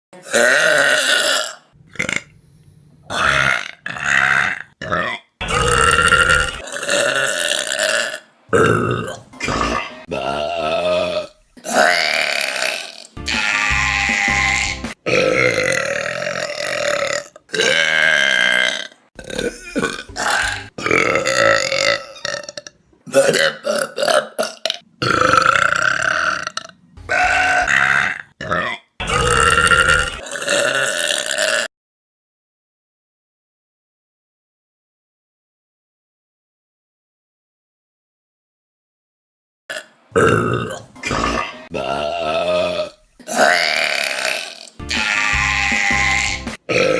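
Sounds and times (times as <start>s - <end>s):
people burping: 0.2s - 2.3s, 3.1s - 31.7s, 39.7s - 46.9s.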